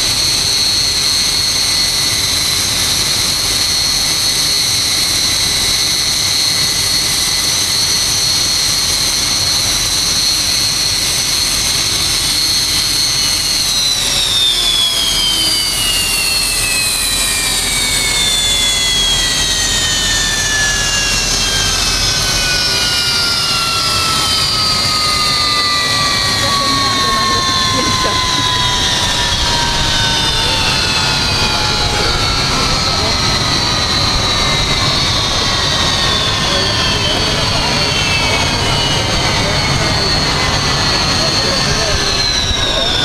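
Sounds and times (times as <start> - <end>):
jet engine spooling down: 0.0 - 43.0
jet engines whining at idle: 0.0 - 43.0.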